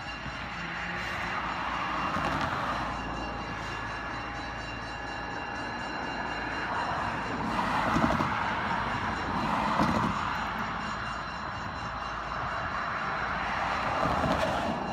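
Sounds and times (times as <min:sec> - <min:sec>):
cars driving past: 0:00.0 - 0:14.9
rail diesel car idling: 0:00.0 - 0:14.9.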